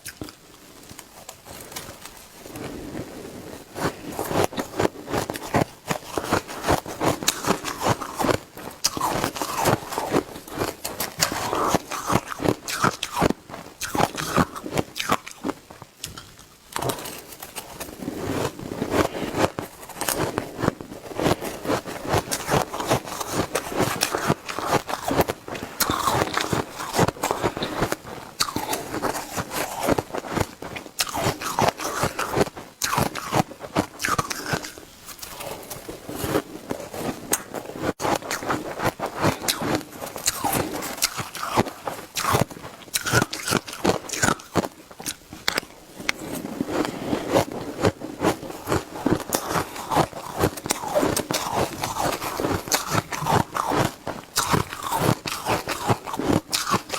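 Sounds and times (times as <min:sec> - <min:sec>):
shaved ice being chewed: 0:00.0 - 0:56.9.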